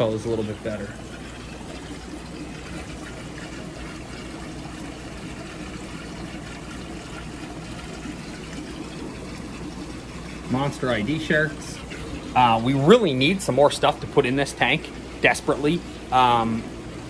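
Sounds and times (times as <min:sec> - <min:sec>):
low even hum: 0:00.0 - 0:17.0
water trickling and bubbling: 0:00.0 - 0:17.0.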